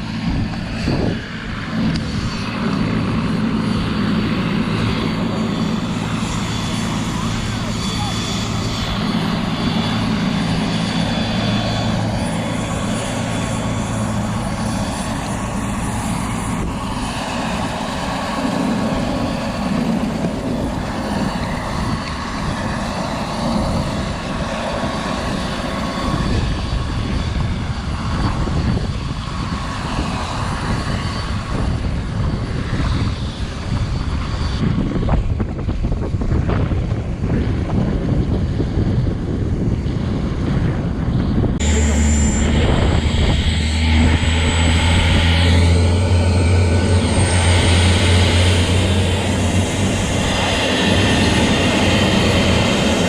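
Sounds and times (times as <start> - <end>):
helicopter engine and rotor: 0.0 - 53.0
wind buffeting microphone: 0.0 - 53.0.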